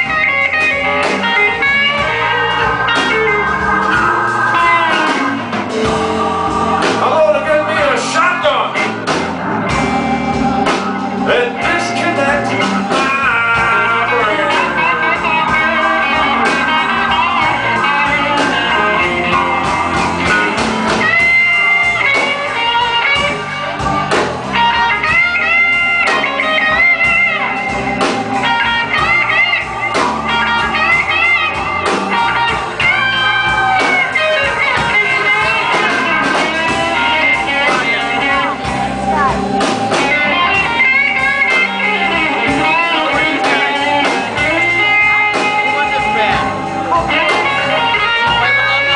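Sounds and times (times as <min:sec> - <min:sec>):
electric guitar with bent notes: 0:00.0 - 0:48.9
steady drum beat: 0:00.0 - 0:48.9.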